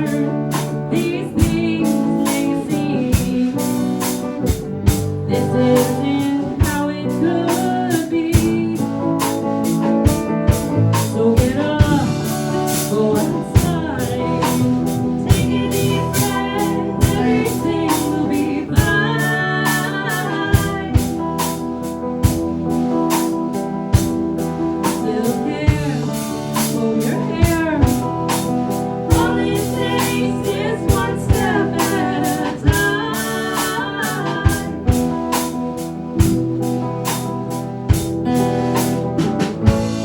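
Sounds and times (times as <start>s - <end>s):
person singing: 0.0s - 21.6s, 24.8s - 35.5s
drum kit beat: 0.0s - 40.0s
guitar: 0.0s - 40.0s.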